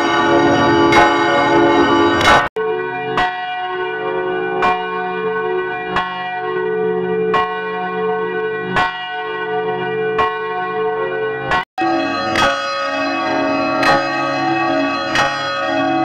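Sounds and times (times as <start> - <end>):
church bell tolling: 0.0 - 16.0.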